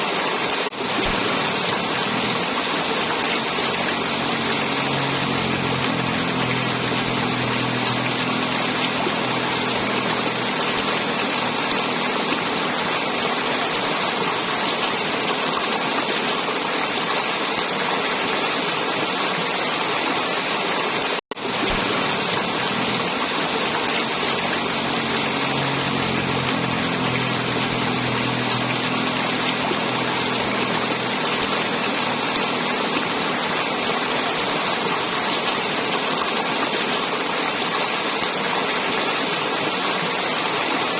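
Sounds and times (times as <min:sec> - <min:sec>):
river water flowing and gurgling: 0:00.0 - 0:40.9.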